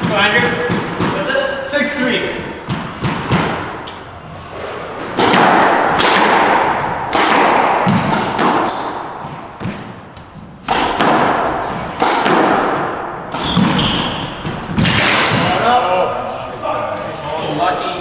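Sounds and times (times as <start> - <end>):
squash ball hits echoing: 0.0 - 1.6, 2.4 - 15.8.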